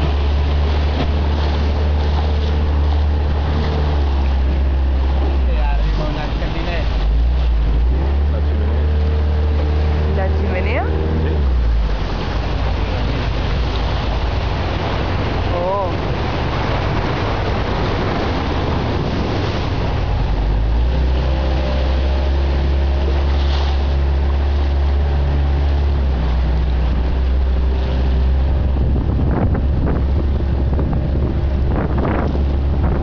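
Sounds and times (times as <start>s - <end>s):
motorboat engine droning: 0.0s - 33.0s
water splashes: 0.0s - 33.0s
wind buffeting microphone: 0.0s - 33.0s.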